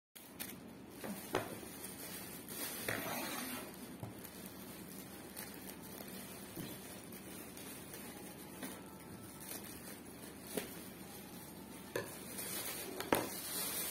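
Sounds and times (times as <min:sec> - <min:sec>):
plastic mailer bag crinkling: 0:00.2 - 0:13.9.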